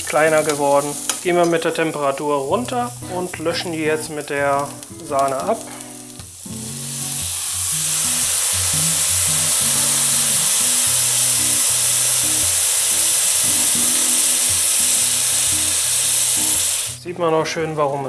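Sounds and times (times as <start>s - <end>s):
mushrooms sizzling in frying pan: 0.0s - 17.0s.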